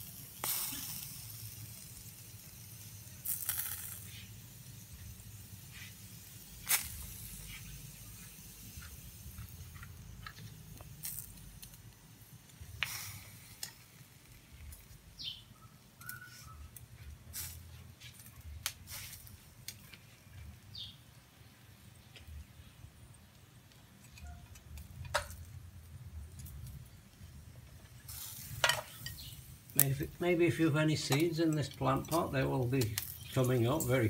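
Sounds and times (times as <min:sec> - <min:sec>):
meat sizzling on charcoal grill: 0:00.0 - 0:34.0
fat popping and crackling: 0:03.0 - 0:21.0, 0:23.2 - 0:34.0.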